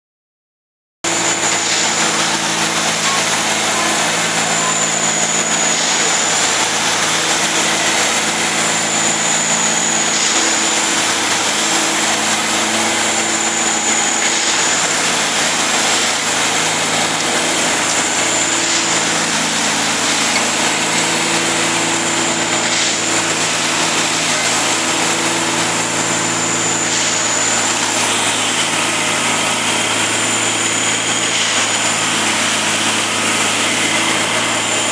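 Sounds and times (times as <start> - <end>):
diesel engine drone: 1.1 - 34.9
high machine whine: 1.1 - 34.9.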